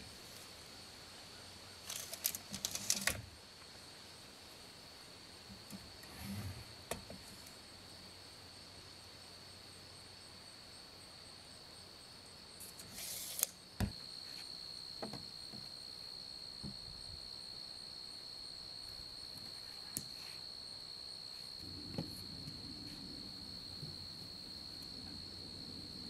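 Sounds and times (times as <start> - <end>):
insects trilling: 1.4 - 26.0.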